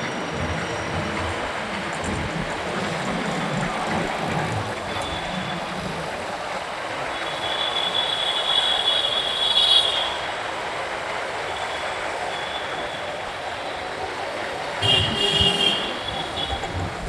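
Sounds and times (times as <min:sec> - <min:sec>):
motorcycle road and wind noise: 0:00.0 - 0:17.0.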